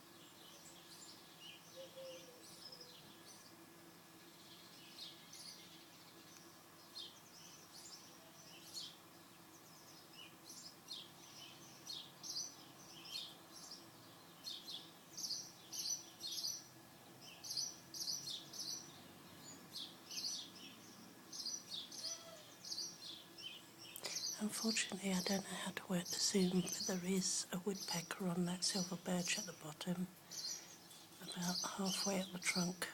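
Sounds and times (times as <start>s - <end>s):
sparrows chirping: 0.0s - 32.9s.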